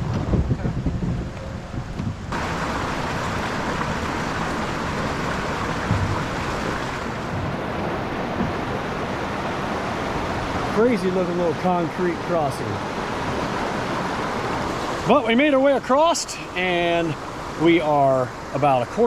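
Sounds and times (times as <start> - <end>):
water rushing through culverts: 1.6 - 19.0.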